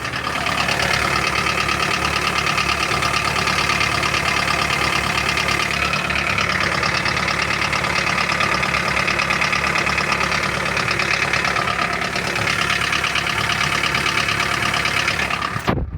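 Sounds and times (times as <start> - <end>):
car engine idling with knock: 0.0 - 15.8.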